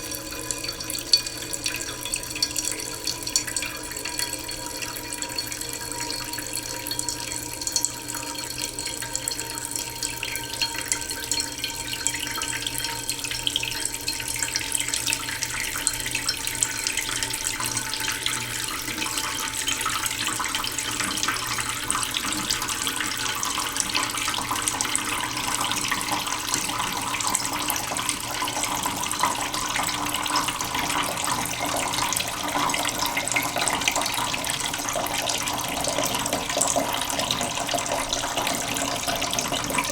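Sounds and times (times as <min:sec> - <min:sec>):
tap water running into pot: 0:00.0 - 0:39.9.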